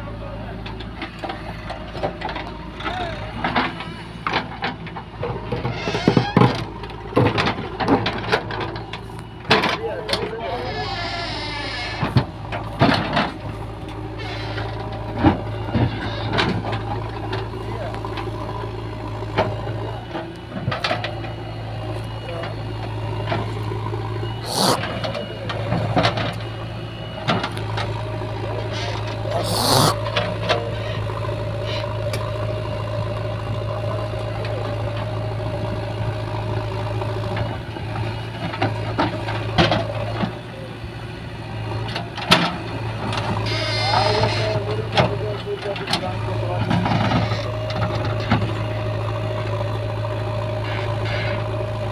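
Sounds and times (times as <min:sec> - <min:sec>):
diesel engines running: 0:00.0 - 0:51.9.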